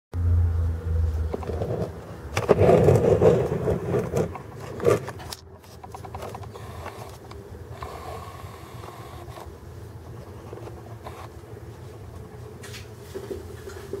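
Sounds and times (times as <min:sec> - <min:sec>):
low hum: 0:00.1 - 0:12.6.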